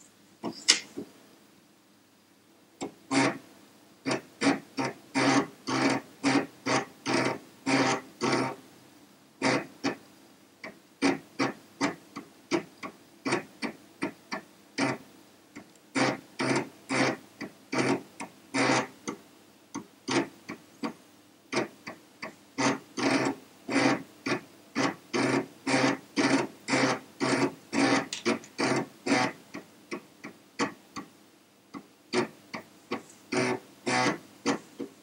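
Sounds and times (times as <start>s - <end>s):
floppy drive clicks and buzzes: 2.8s - 8.6s, 9.4s - 10.0s, 10.6s - 35.0s.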